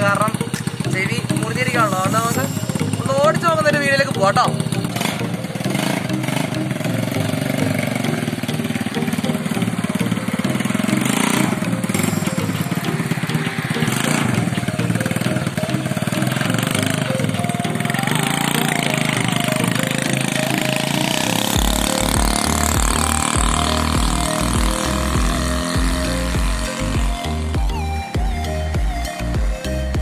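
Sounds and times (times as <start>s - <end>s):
small motorbike engine revving: 0.0s - 30.0s.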